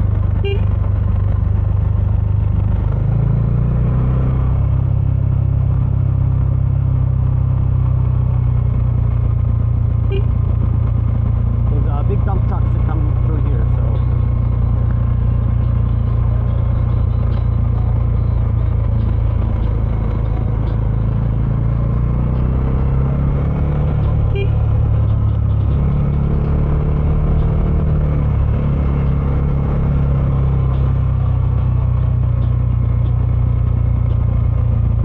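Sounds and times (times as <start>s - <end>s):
motorcycle engine droning: 0.0s - 35.0s.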